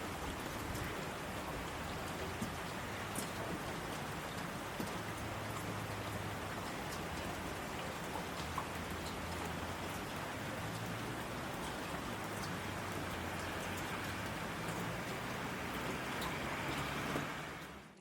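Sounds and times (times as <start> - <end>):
steady rain falling: 0.0 - 18.0
raindrop ticks: 0.2 - 18.0.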